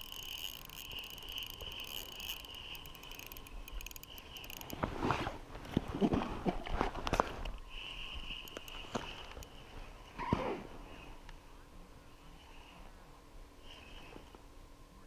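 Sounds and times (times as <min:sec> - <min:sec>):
faint high buzz with ticking: 0:00.0 - 0:05.0, 0:07.4 - 0:15.0.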